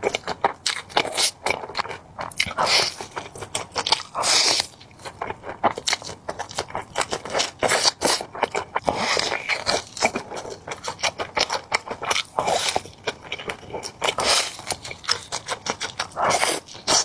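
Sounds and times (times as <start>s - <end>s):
eating crackles and scrapes: 0.0s - 17.0s.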